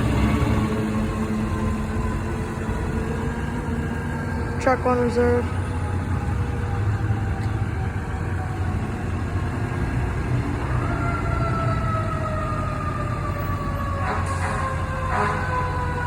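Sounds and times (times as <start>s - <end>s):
fire truck engine rumbling: 0.0s - 16.0s.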